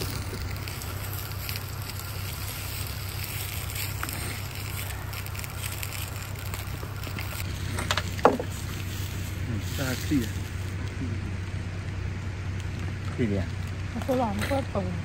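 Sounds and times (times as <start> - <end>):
low rushing noise with hum: 0.0 - 15.0.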